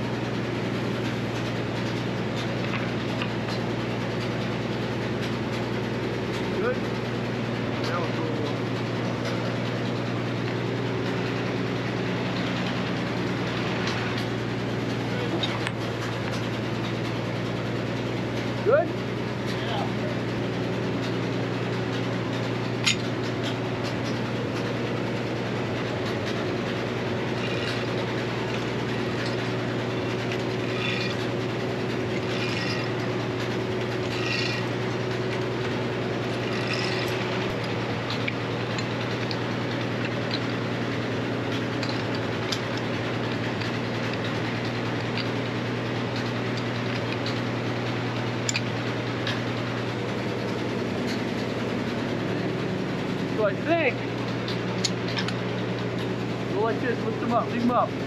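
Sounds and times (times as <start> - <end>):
sawmill mechanical drone: 0.0 - 58.0.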